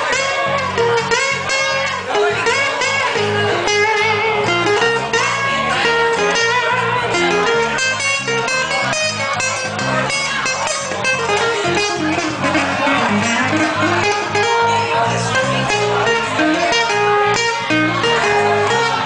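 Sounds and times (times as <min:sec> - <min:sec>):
acoustic guitars strummed and plucked: 0:00.0 - 0:19.0
bass line: 0:00.0 - 0:19.0
lead melody with bending notes: 0:00.0 - 0:19.0.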